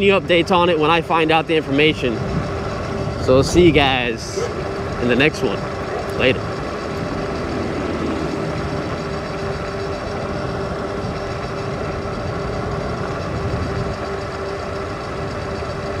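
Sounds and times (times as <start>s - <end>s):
faint electric motor whine: 0.0s - 16.0s
wind and road noise: 0.0s - 16.0s.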